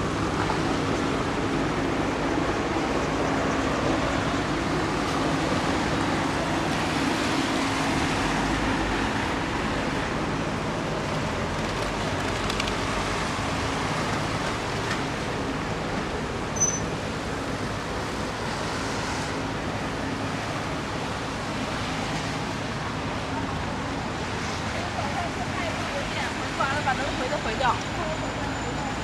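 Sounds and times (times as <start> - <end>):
vehicles passing on wet street: 0.0 - 29.0.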